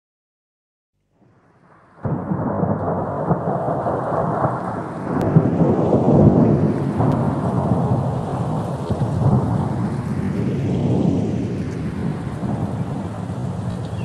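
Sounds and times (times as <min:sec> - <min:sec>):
thunder rumbling: 0:01.2 - 0:14.0
steady rain: 0:01.7 - 0:14.0.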